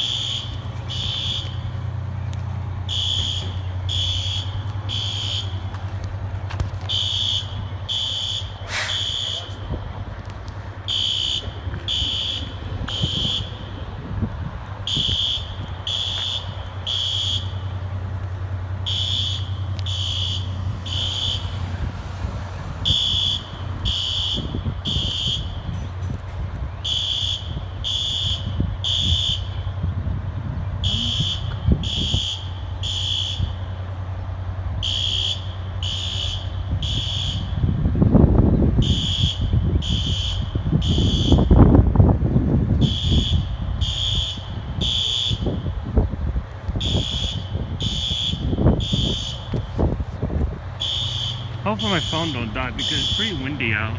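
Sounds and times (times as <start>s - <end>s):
fire alarm horn blasts: 0.0s - 9.9s, 10.6s - 53.9s
wind buffeting microphone: 0.0s - 34.9s, 36.5s - 53.9s.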